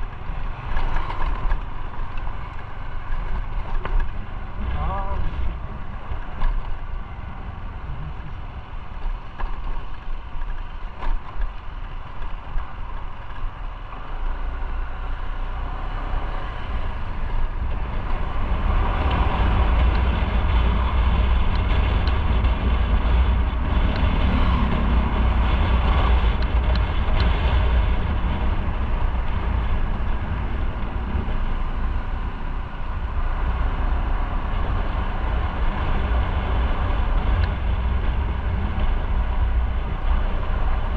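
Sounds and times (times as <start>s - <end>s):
motorcycle engine running: 0.0s - 40.9s
wind and road rush: 0.0s - 40.9s.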